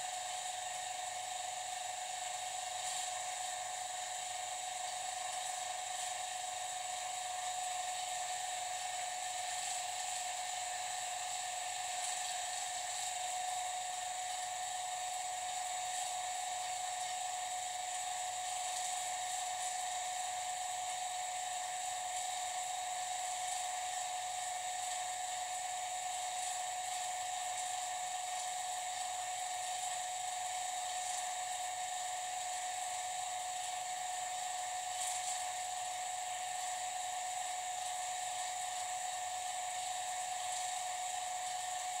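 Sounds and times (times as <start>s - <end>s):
vacuum pump whine: 0.0s - 42.0s.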